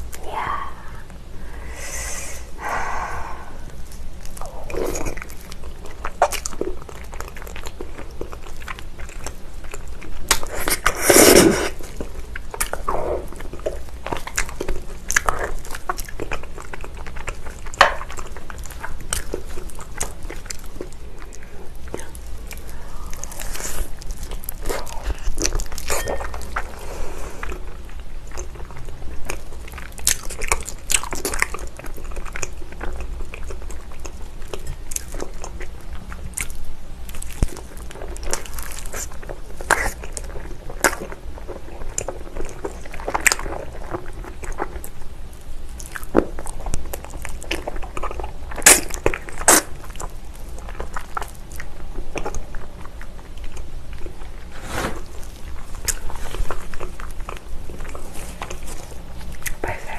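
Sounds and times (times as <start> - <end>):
person chewing and biting: 3.8 - 45.0, 45.7 - 59.9.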